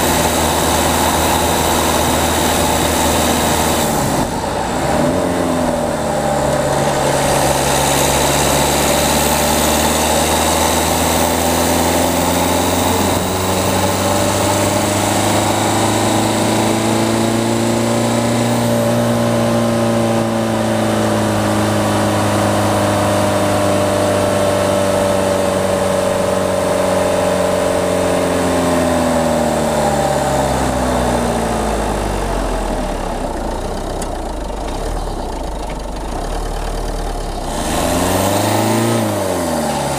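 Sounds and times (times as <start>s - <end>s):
diesel car engine: 0.0s - 39.9s
road and wind noise: 0.0s - 39.9s.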